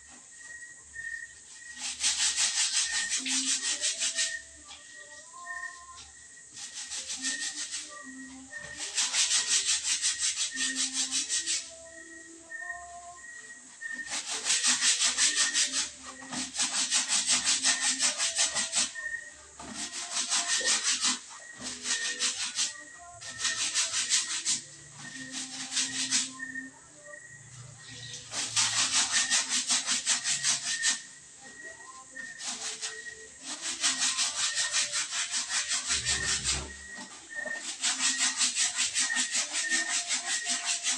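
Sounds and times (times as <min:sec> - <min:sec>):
wet fabric scrubbed by hand: 0:01.5 - 0:04.5, 0:06.6 - 0:11.8, 0:13.8 - 0:26.6, 0:27.8 - 0:31.1, 0:32.2 - 0:40.9.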